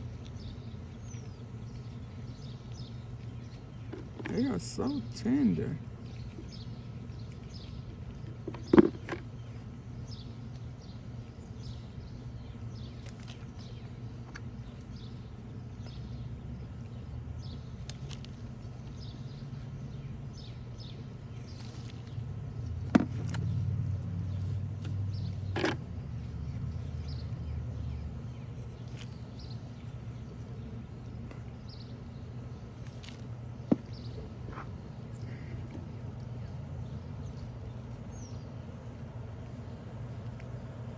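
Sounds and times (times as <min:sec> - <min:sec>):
distant traffic rumble: 0:00.0 - 0:40.9.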